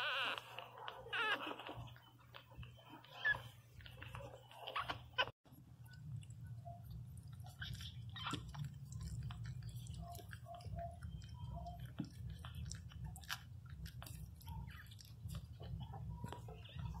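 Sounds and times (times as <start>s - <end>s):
puppy squeaks: 0.0s - 5.4s, 6.6s - 17.0s
puppies suckling: 0.0s - 17.0s.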